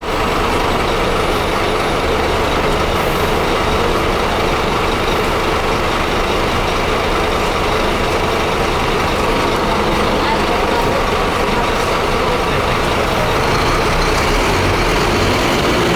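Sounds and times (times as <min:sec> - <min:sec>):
bus diesel engine running: 0:00.0 - 0:15.9.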